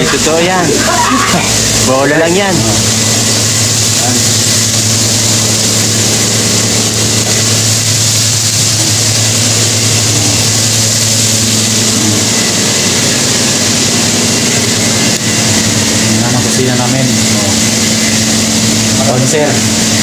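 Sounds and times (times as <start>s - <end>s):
chicken deep-frying in oil: 0.0s - 20.0s
constant hiss: 0.0s - 20.0s
kitchen machinery humming: 0.0s - 20.0s.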